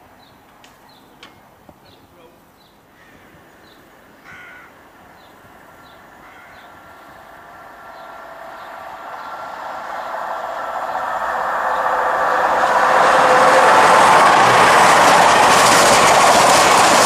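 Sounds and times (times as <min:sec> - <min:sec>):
diesel train approaching: 0:00.0 - 0:17.0.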